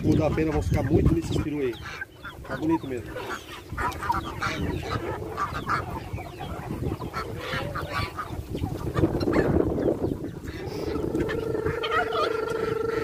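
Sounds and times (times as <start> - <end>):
ducks and chickens calling: 0.0 - 13.0.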